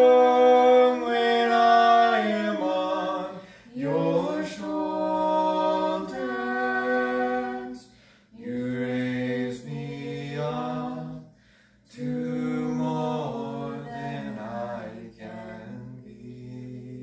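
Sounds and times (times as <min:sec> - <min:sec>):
man and woman singing duet: 0:00.0 - 0:11.2, 0:11.9 - 0:17.0.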